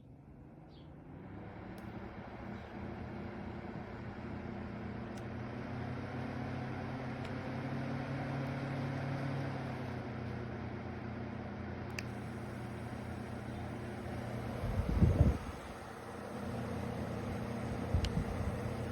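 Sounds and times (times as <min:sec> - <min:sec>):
motor humming: 0:00.4 - 0:18.9.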